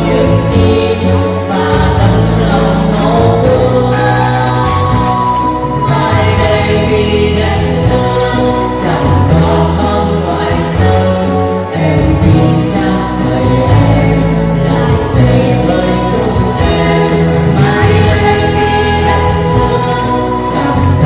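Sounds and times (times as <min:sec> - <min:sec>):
instrumental accompaniment: 0:00.0 - 0:21.0
young voices singing together: 0:00.0 - 0:21.0.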